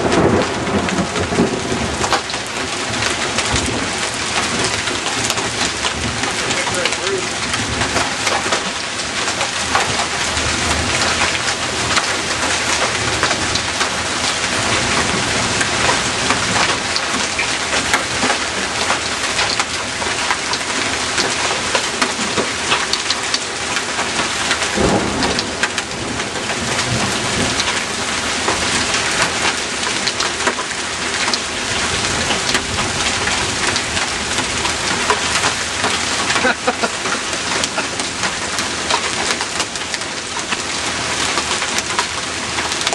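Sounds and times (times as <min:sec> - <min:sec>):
hailstones clattering: 0:00.0 - 0:42.9.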